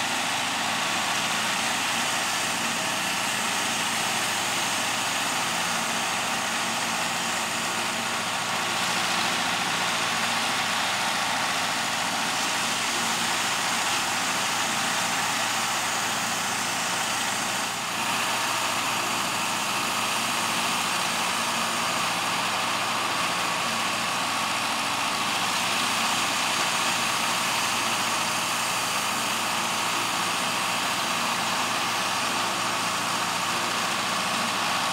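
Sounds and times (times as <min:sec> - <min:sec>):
diesel engines idling: 0:00.0 - 0:34.9.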